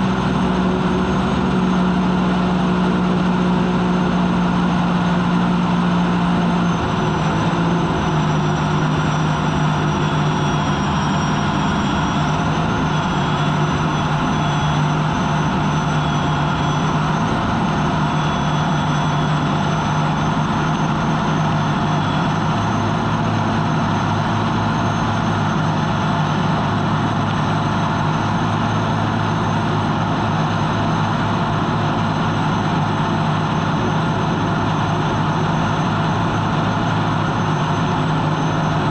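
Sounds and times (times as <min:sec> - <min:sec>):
turbine engine whine and drone: 0:00.0 - 0:38.9.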